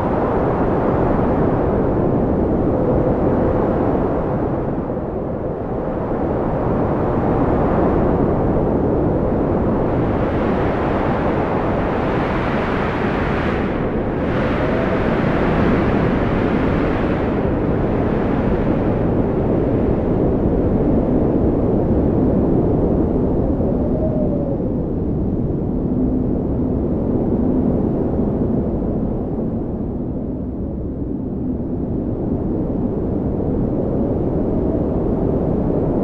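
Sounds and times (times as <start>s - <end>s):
faint wavering wind whistle: 0.0s - 30.4s
strong wind rushing: 0.0s - 36.0s.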